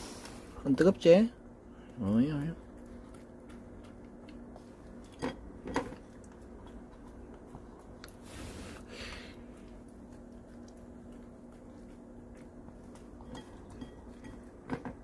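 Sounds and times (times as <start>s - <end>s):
quiet steady hum: 0.0s - 15.0s
dog chewing and lapping: 1.7s - 15.0s.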